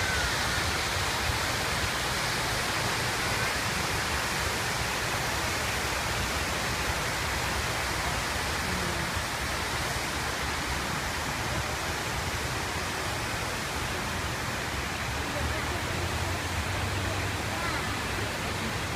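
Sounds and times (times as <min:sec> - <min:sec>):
waterfall rushing and splashing: 0:00.0 - 0:18.9.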